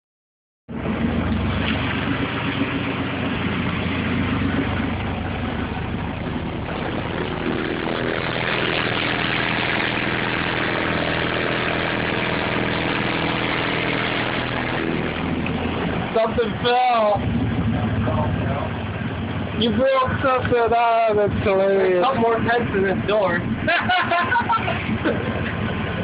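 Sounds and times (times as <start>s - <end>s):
loud low bass tone: 0.7s - 26.0s.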